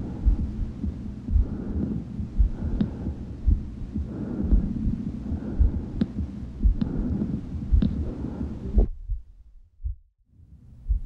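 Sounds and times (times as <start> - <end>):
breath sounds through stethoscope: 0.0 - 8.9
heartbeat thumps: 0.0 - 10.1.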